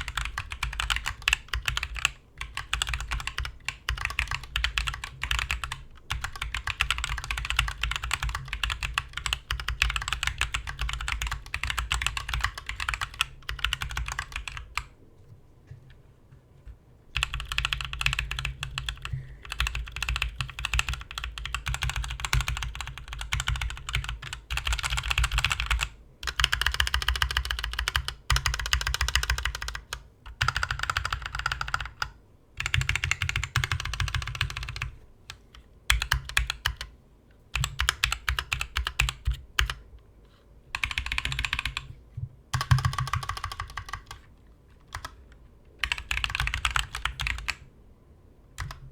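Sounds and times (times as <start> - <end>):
mechanical keyboard typing: 0.0 - 14.9, 17.2 - 35.0, 35.9 - 36.9, 37.5 - 39.8, 40.8 - 41.9, 42.5 - 47.6, 48.6 - 48.9.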